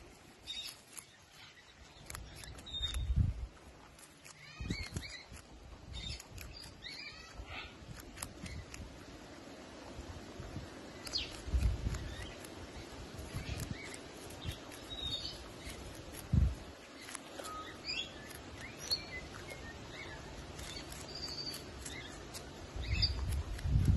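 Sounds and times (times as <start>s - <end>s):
small birds chirping: 0.0s - 9.6s, 10.5s - 23.9s
low outdoor background: 0.0s - 23.9s.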